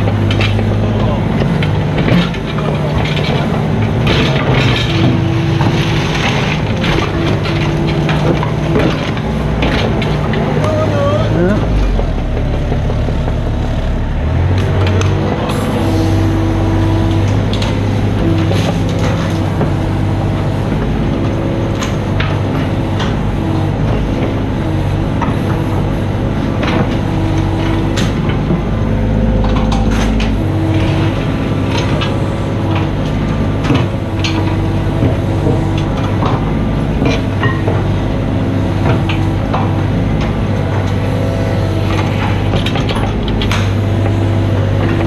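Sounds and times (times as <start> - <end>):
diesel engine running: 0.0 - 45.0
hydraulics whine: 0.0 - 45.0.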